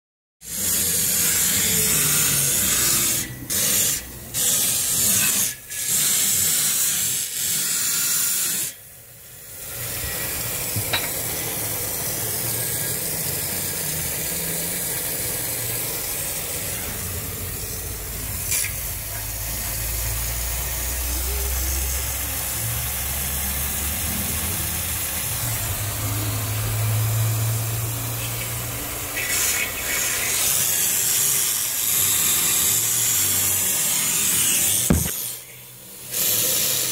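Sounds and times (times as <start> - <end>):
compressed air hissing from drain: 0.4 - 36.9.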